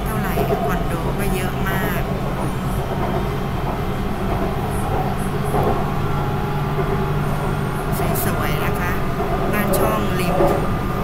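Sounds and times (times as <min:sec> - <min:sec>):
train car rolling rumble: 0:00.0 - 0:11.0.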